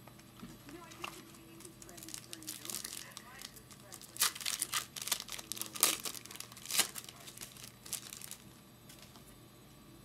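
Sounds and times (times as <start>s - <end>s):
foil wrapper crinkling and tearing: 0.9s - 9.2s.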